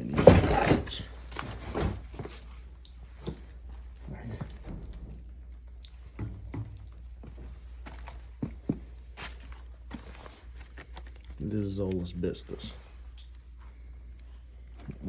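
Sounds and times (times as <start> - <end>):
steady low hum: 0.0 - 15.0
water dripping and splashing: 0.0 - 15.0.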